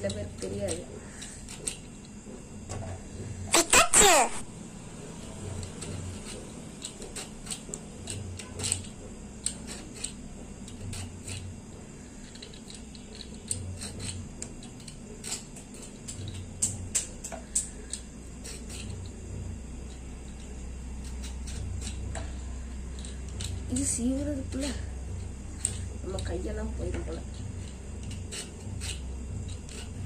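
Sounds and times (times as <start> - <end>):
peeler scraping gourd skin: 0.0 - 2.6, 5.1 - 30.0.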